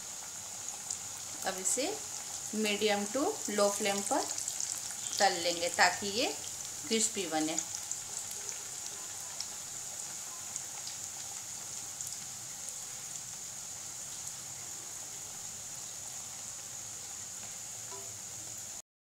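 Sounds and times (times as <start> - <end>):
dough sizzling in hot oil: 0.0 - 18.8.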